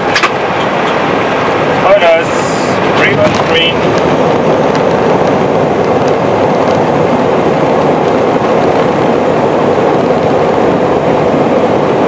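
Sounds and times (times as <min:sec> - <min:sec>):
jet engine and airframe rushing: 0:00.0 - 0:12.0.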